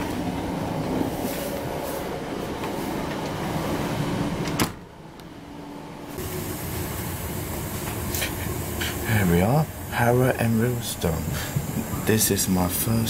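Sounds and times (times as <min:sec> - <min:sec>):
train interior running noise: 0:00.0 - 0:13.0.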